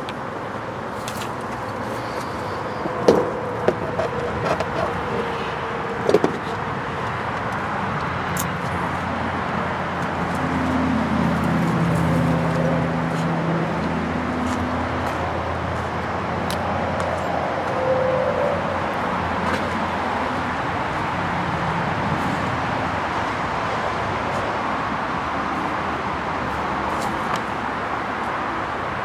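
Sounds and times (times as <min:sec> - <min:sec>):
vehicle engine hum: 0:00.0 - 0:29.0
vehicles passing: 0:00.0 - 0:29.0.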